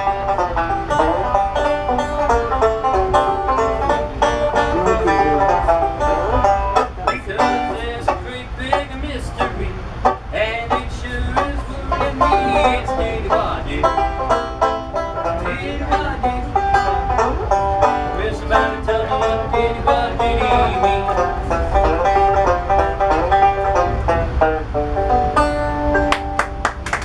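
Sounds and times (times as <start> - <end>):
banjo picking bluegrass tune: 0.0 - 26.8
low rumble of rail car: 0.0 - 27.0.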